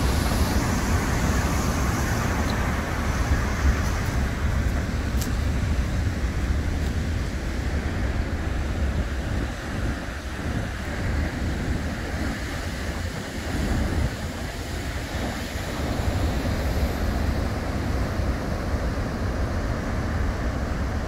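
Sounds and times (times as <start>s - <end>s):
heavy surf breaking: 0.0s - 21.0s
wind buffeting microphone: 0.0s - 21.0s.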